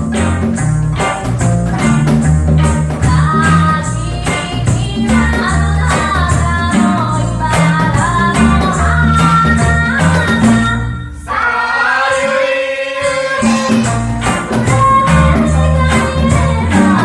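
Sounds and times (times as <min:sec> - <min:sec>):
reggae band playing: 0:00.0 - 0:17.0
person singing: 0:02.6 - 0:17.0.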